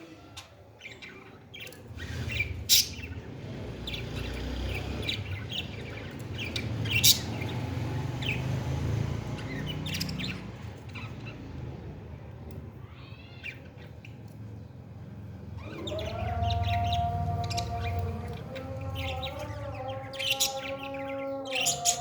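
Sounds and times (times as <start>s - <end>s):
parrots chirping: 0.0s - 11.7s, 12.8s - 14.6s, 15.5s - 22.0s.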